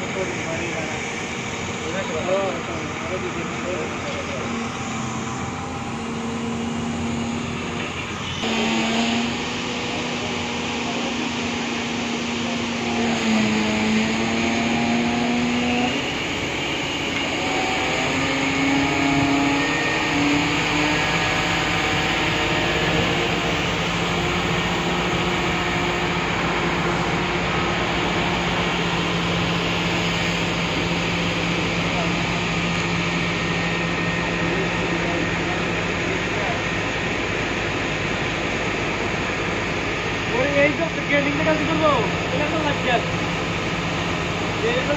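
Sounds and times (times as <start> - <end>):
construction machinery engines droning: 0.0 - 44.9.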